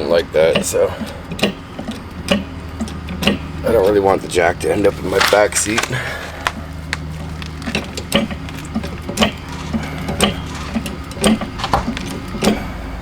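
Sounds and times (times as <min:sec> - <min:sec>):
steady low hum: 0:00.0 - 0:13.0
car jack metallic clicks: 0:00.2 - 0:04.0, 0:04.7 - 0:12.8.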